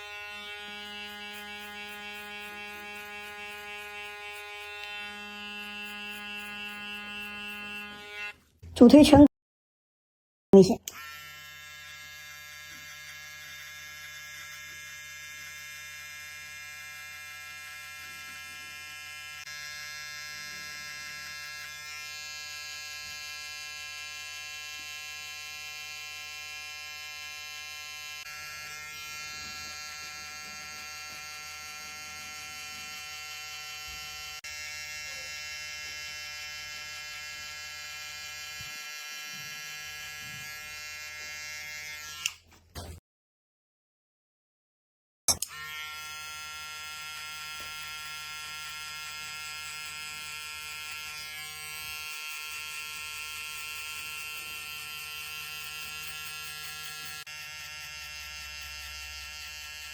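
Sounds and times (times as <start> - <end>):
electric hair clipper buzzing: 0.0 - 8.4, 10.9 - 42.6, 45.3 - 59.9.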